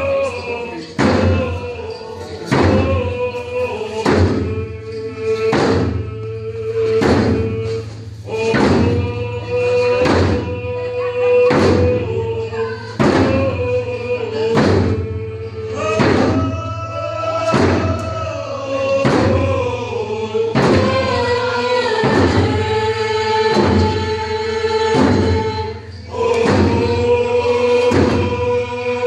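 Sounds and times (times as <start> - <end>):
group singing: 0.0 - 29.0
slow steady drumbeat: 0.0 - 29.0.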